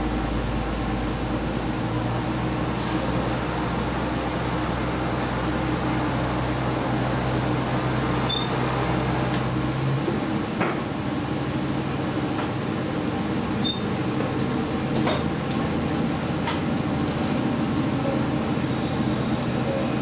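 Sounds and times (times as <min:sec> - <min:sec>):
diesel railcar engine rumble: 0:00.0 - 0:20.0.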